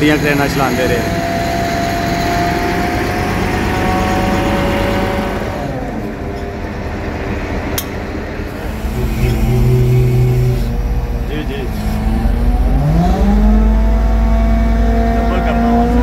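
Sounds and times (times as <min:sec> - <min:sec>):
crane diesel engine running: 0:00.0 - 0:16.0
hydraulic whine: 0:00.0 - 0:16.0.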